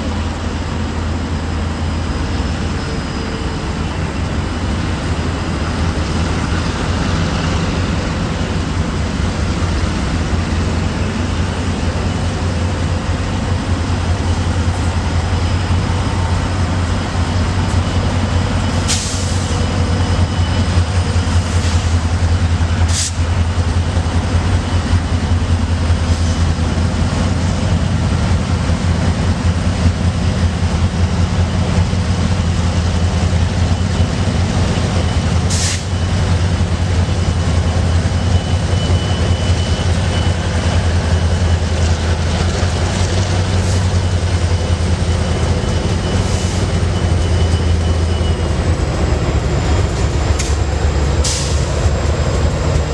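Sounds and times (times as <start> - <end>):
freight train rumbling on rails: 0.0 - 52.9.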